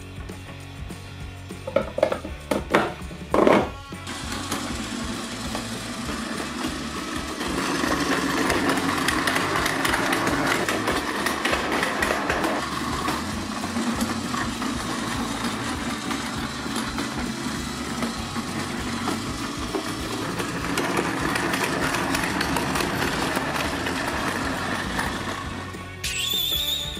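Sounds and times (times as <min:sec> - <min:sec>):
toy train motor whirring: 0:04.0 - 0:26.9
wheels rattling on wooden track: 0:04.1 - 0:25.8.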